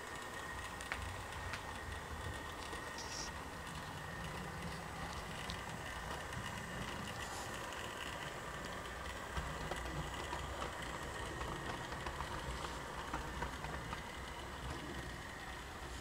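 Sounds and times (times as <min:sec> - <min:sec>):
model train rumble and motor hum: 0:00.0 - 0:16.0
wheels clicking on rails: 0:00.0 - 0:16.0.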